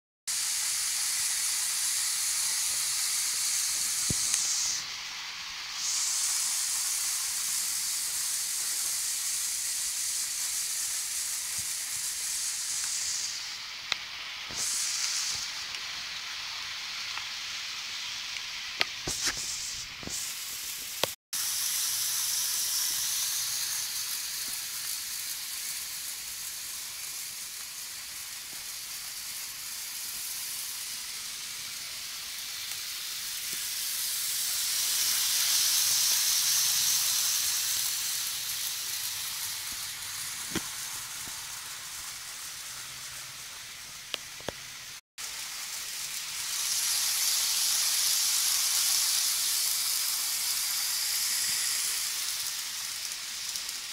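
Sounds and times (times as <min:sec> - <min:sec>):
model trains running on track: 0:00.4 - 0:14.0, 0:21.4 - 0:44.5, 0:45.2 - 0:53.9.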